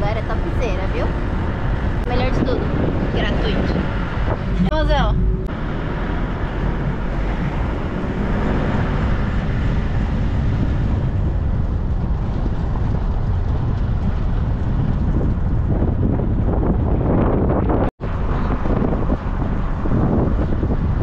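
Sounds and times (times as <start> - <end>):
vehicle road and engine noise: 0.0 - 21.0
wind buffeting microphone: 0.0 - 21.0.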